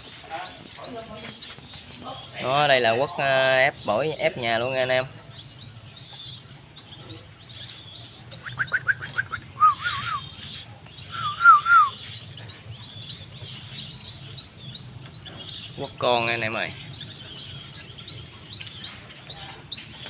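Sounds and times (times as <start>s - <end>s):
bird chicks peeping: 0.0s - 20.0s.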